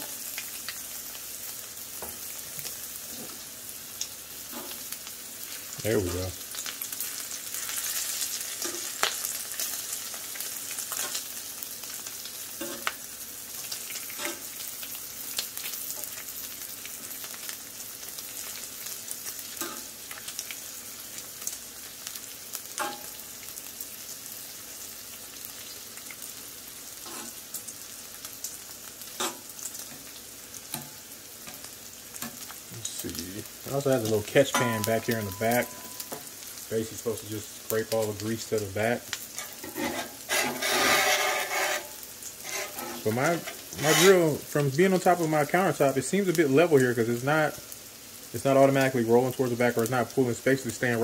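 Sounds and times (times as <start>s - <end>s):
bacon sizzling on a griddle: 0.0s - 51.0s.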